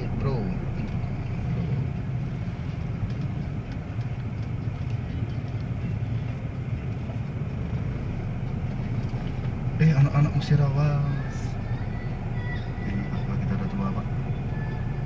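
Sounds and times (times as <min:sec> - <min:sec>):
idling engines low hum: 0:00.0 - 0:15.0.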